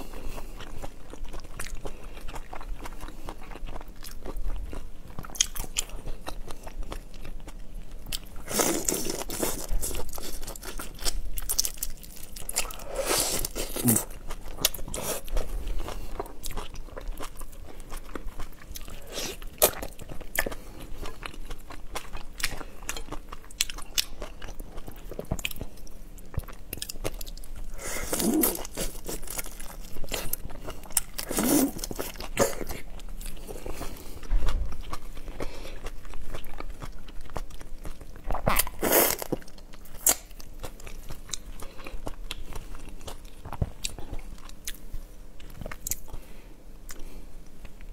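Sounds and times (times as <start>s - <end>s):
crunching and chewing shrimp: 0.0s - 47.9s.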